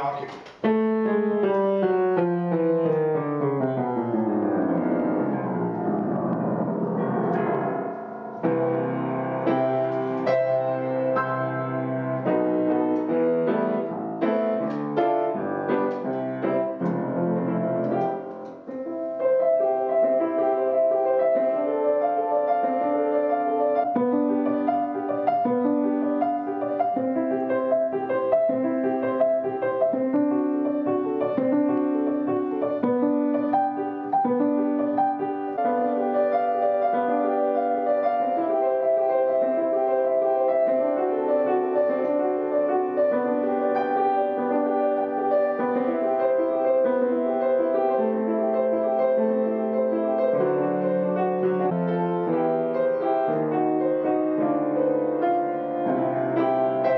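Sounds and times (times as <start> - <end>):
grand piano playing: 0.0 - 56.9.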